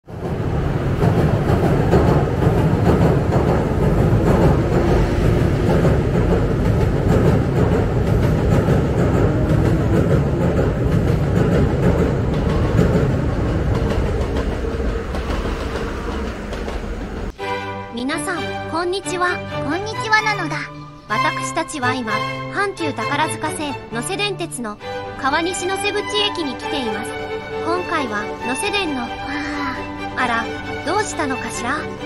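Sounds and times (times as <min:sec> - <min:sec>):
train wheels rumbling on rail: 0:00.0 - 0:17.4, 0:19.0 - 0:32.0.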